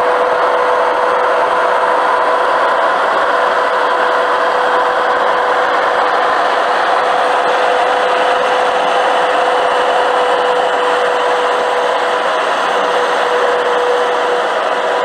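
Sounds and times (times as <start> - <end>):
steady droning hum: 0.0 - 15.0.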